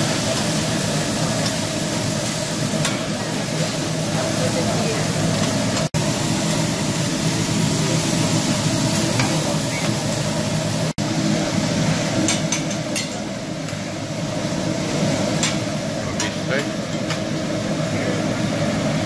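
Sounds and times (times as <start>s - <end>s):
meat and vegetables sizzling on griddle: 0.0s - 19.0s.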